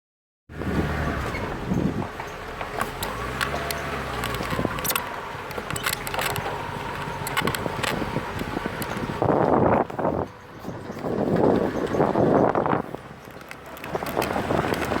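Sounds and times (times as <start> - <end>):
vehicle engine running: 0.5 - 15.0
sharp clicks and knocks: 1.2 - 15.0.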